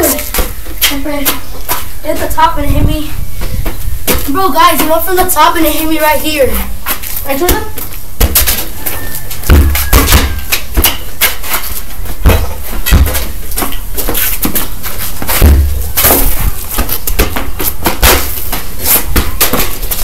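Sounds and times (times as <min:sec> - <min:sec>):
soccer ball kicked and striking wall: 0:00.0 - 0:02.2, 0:03.6 - 0:05.0, 0:06.8 - 0:20.0
footsteps: 0:00.0 - 0:20.0.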